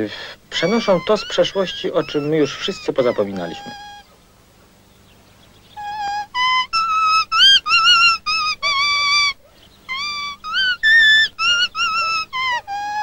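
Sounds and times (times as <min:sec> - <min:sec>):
reedy whistle-like leaf melody: 0:00.5 - 0:04.2, 0:04.9 - 0:13.0.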